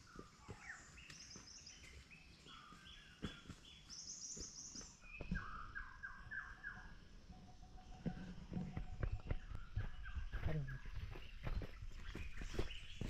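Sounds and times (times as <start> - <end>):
birds whistling repeated notes: 0.0 - 13.0.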